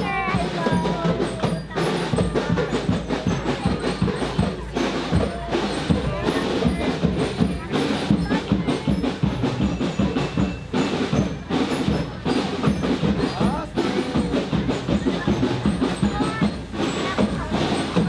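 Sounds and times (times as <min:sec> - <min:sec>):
crowd voices: 0:00.0 - 0:18.0
marching band drums and percussion: 0:00.0 - 0:18.0.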